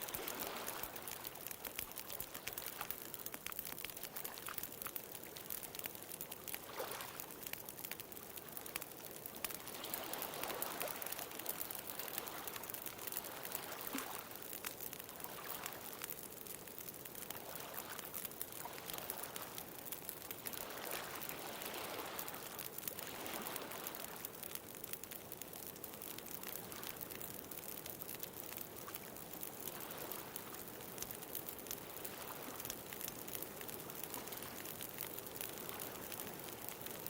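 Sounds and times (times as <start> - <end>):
bonfire crackling and popping: 0.0 - 37.0.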